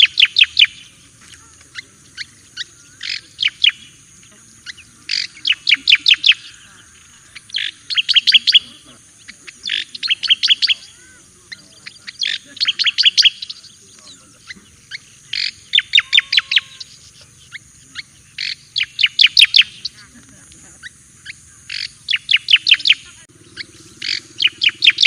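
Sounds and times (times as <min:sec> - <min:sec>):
bird singing whistled notes: 0:00.0 - 0:20.2, 0:20.8 - 0:25.0.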